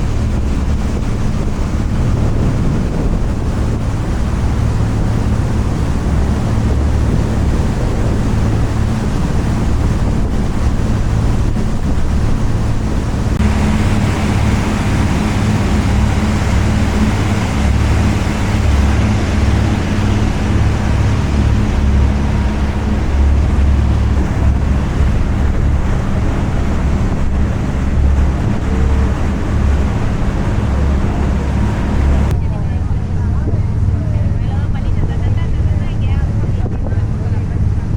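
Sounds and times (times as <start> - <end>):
boat engine humming: 0.0 - 37.9
passing water: 0.0 - 37.9
wind on microphone: 0.0 - 37.9.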